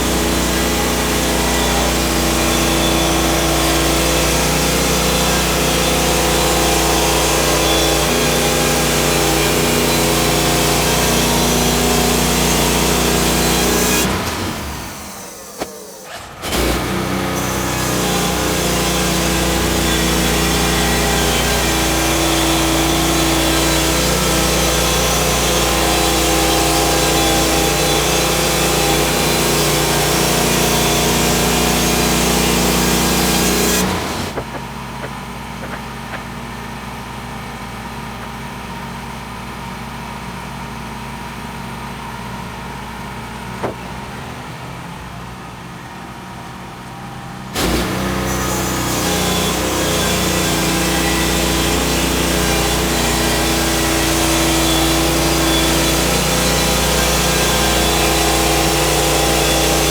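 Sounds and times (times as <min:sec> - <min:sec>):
sawmill petrol engine running: 0:00.0 - 0:59.9.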